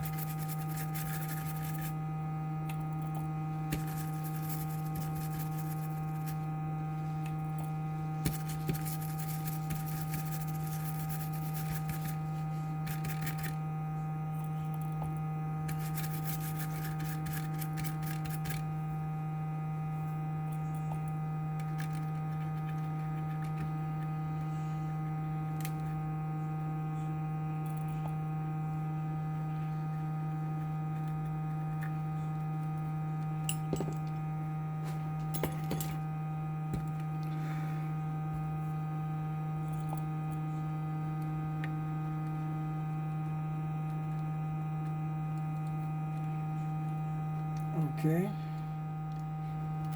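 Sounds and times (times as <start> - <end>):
electrical hum with steady tones: 0.0 - 49.9.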